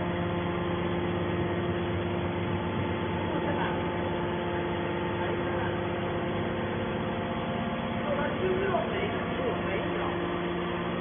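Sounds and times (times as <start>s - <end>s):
hydraulic baler humming: 0.0s - 11.0s.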